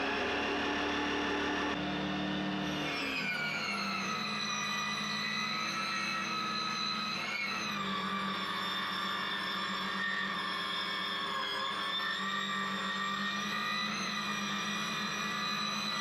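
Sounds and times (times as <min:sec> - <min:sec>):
circular saw whining: 0:00.0 - 0:16.0.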